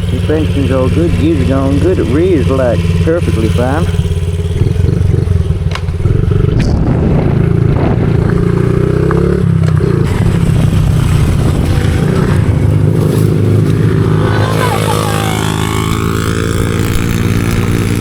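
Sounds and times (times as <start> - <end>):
pit bike engine revving: 0.0 - 18.0.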